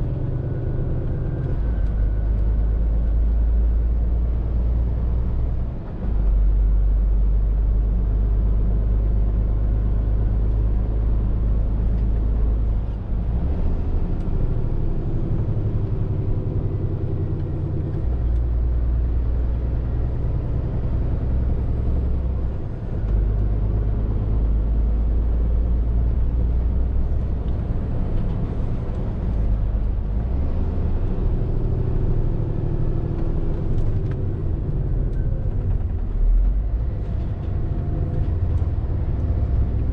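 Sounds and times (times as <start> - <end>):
lorry diesel engine drone: 0.0 - 39.9
road noise: 0.0 - 39.9.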